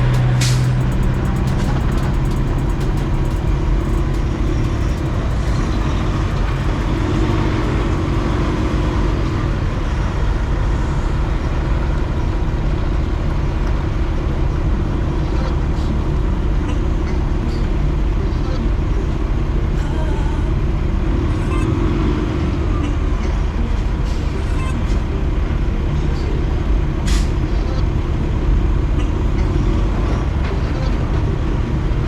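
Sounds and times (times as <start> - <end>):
road and wind noise: 0.0 - 32.0
truck engine drone: 0.0 - 32.0.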